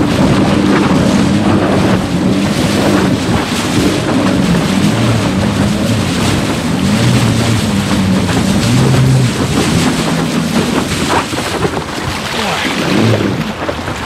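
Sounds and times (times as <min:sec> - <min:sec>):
water rushing and splashing: 0:00.0 - 0:14.0
wind buffeting microphone: 0:00.0 - 0:14.0.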